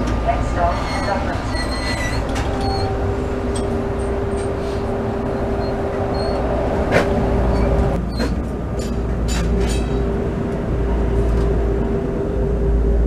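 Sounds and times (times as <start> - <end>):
steady hum: 0.0 - 13.0
streetcar wheels rumbling on rails: 0.0 - 13.0.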